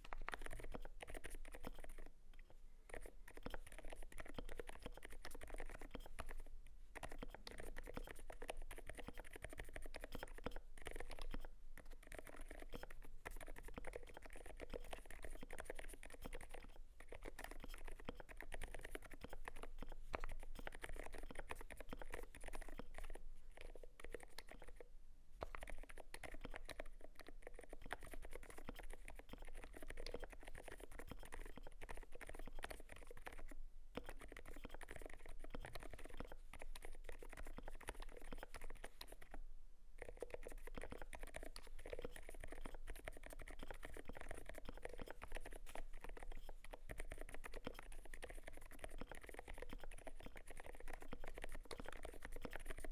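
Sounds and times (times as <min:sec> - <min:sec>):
fast mechanical keyboard typing: 0:00.0 - 0:02.1, 0:02.9 - 0:24.8, 0:25.4 - 0:39.4, 0:40.0 - 0:52.9.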